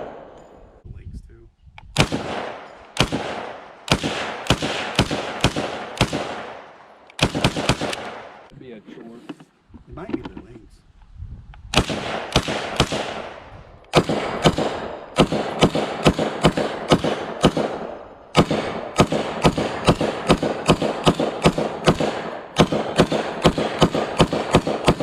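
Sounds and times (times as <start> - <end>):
rifle shots with echo: 0.0 - 0.8, 2.0 - 8.5, 11.7 - 25.0.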